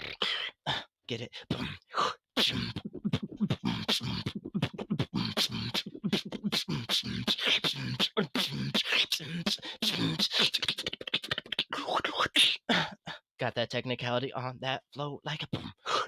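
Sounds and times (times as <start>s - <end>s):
beatboxing: 0.0s - 12.8s, 15.3s - 16.0s.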